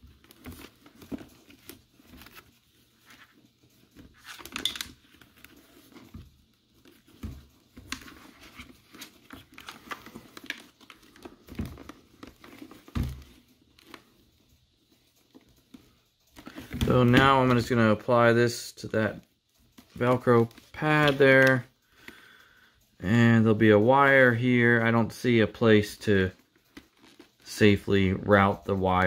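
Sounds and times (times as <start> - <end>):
rustling and scraping of helmet liner: 0.0 - 29.0.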